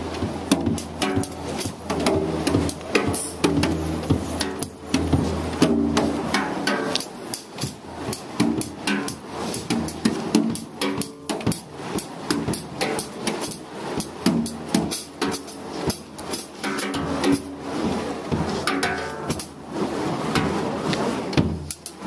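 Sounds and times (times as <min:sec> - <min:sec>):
drum kit playing: 0:00.0 - 0:22.0.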